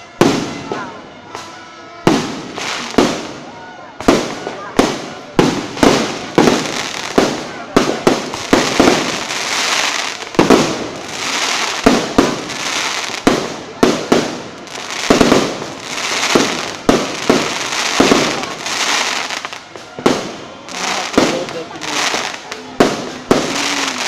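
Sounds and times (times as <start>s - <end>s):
fireworks banging: 0.0s - 24.0s
hissing crackle of fireworks: 0.0s - 24.0s.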